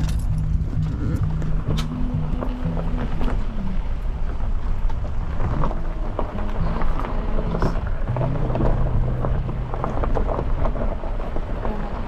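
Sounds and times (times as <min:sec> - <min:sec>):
rumble and rattles: 0:00.0 - 0:12.0
vehicle engine hum: 0:00.0 - 0:12.0.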